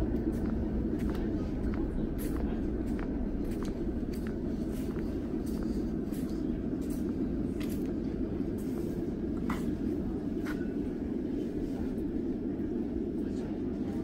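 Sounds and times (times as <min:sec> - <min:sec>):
station platform low hum: 0:00.0 - 0:14.0.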